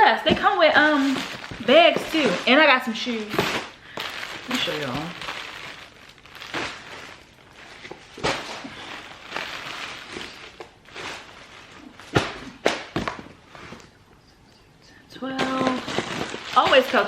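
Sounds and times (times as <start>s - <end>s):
packaging rustling: 0.0s - 13.9s, 15.4s - 17.0s.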